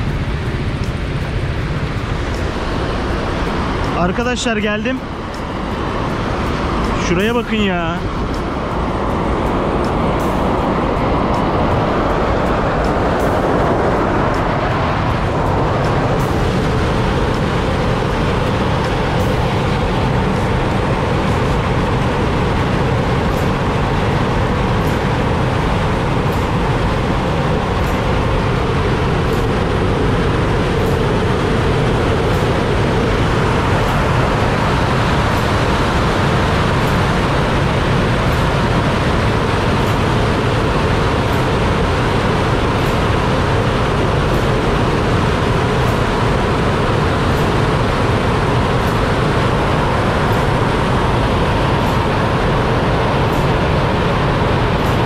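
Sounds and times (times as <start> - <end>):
water rushing from dam outlet: 0.0 - 55.0.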